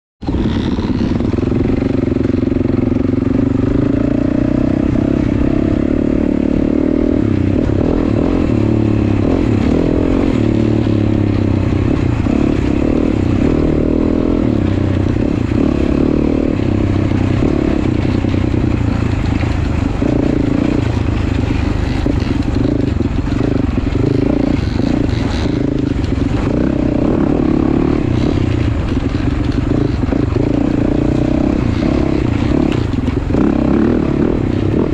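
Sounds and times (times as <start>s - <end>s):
motorcycle engine running: 0.2s - 34.9s
road and wind noise: 0.2s - 34.9s.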